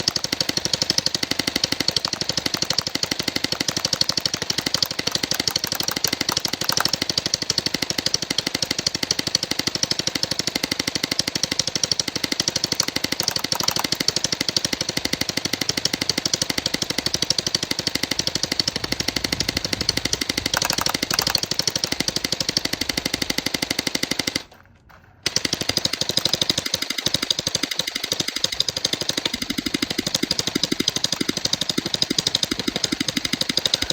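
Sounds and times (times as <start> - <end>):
gel blaster firing full auto: 0.0 - 24.5, 25.2 - 33.9.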